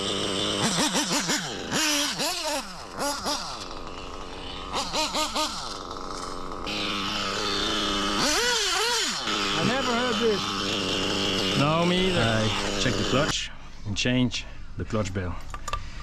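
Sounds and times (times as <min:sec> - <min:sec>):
nitro engine idling and revving: 0:00.0 - 0:13.5.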